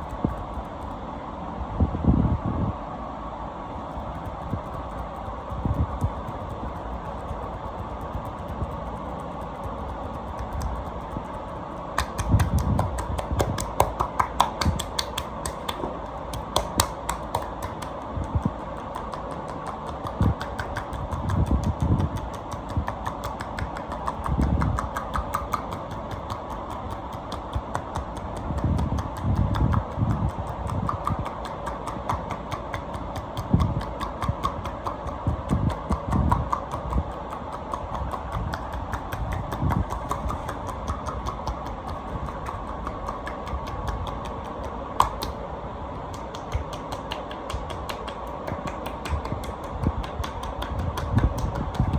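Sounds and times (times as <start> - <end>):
steady background hum: 0.0 - 51.9.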